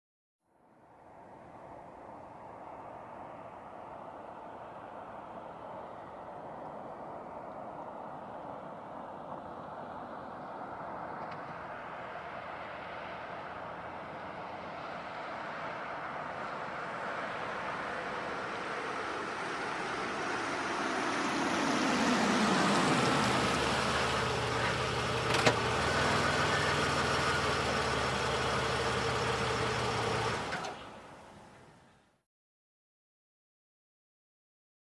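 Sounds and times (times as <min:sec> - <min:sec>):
car engine approaching and idling: 0:00.9 - 0:32.0.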